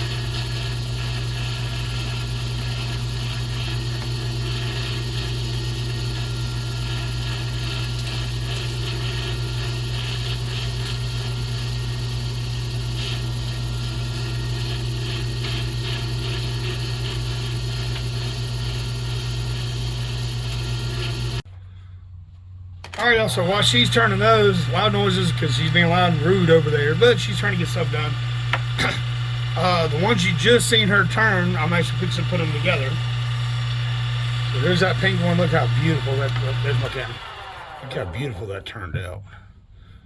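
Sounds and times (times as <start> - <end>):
lathe humming: 0.0 - 21.4, 22.9 - 38.6.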